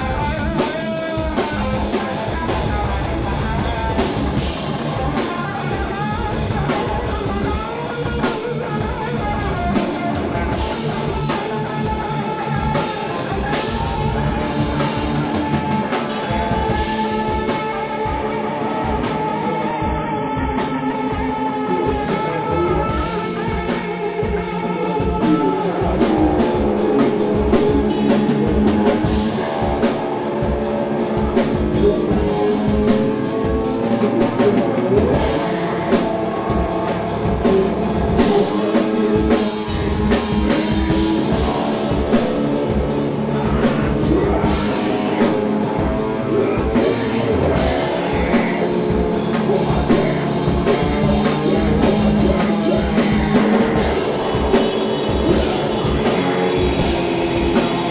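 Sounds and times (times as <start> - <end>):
distorted electric guitar: 0.0 - 57.9
drum kit pounding: 0.0 - 57.9.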